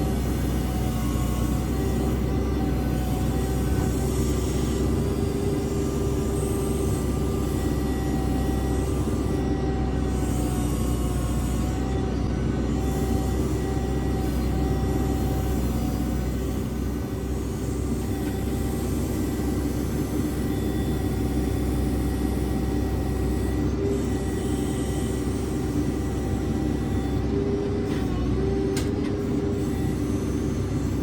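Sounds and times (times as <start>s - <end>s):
backhoe diesel engine running: 0.0s - 31.0s.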